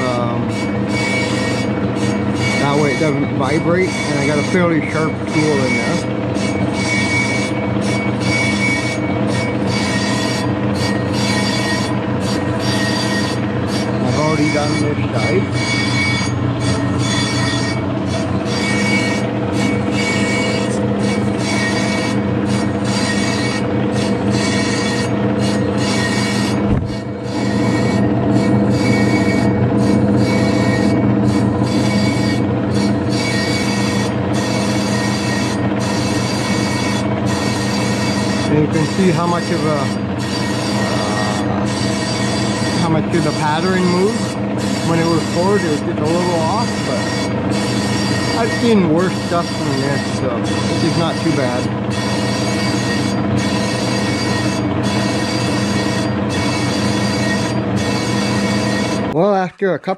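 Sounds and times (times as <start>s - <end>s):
lathe tool scraping squeal: 0.0s - 59.2s
machine hum: 0.0s - 59.4s.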